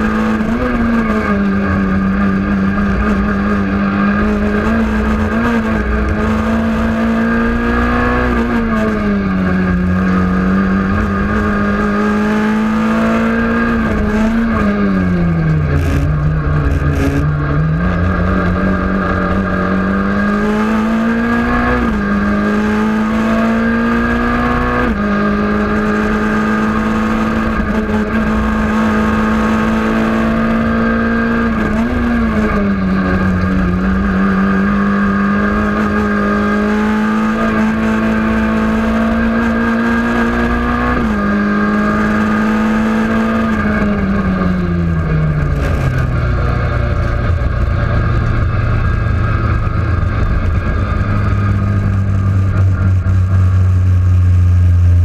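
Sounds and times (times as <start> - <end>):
rally car engine from cabin: 0.0 - 55.0.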